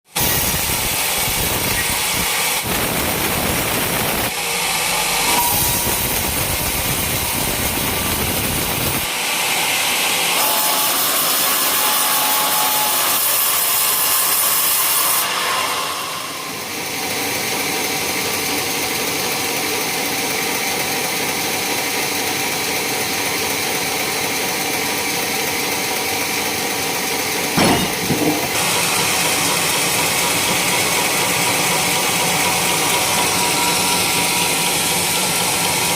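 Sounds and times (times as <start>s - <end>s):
sawmill saw cutting wood: 0.1s - 35.9s.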